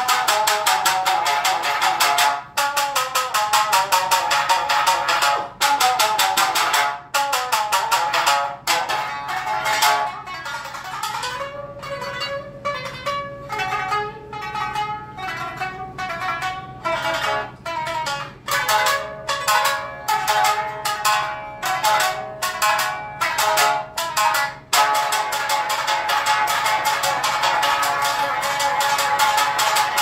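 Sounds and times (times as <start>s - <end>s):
shamisen strings struck: 0.0s - 30.0s.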